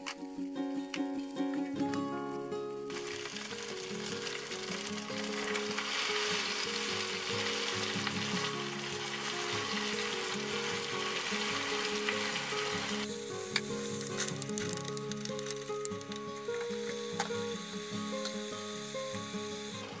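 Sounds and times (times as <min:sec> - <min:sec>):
tomato sizzling in a wok: 0:00.2 - 0:20.0.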